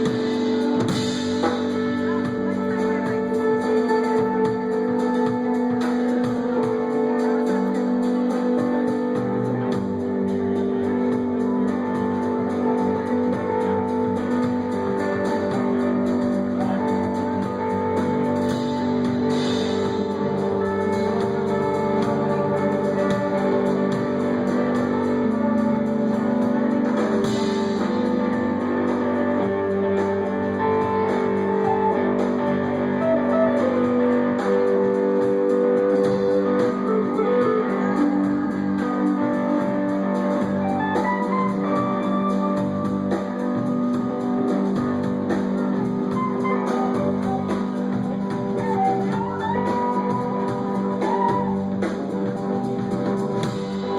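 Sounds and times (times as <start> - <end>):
bass guitar: 0.0 - 53.9
lead guitar: 0.0 - 53.9
rock band playing: 0.0 - 53.9.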